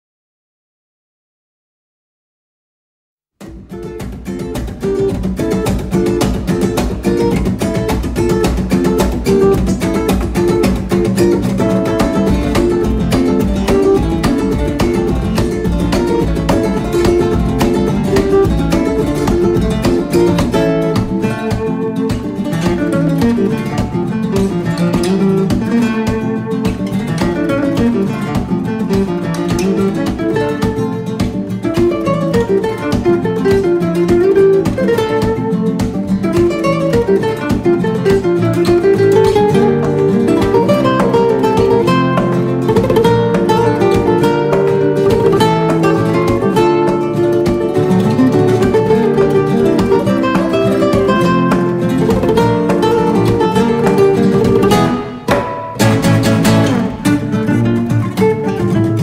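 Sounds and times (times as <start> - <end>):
flamenco-style acoustic guitar: 3.4 - 59.0.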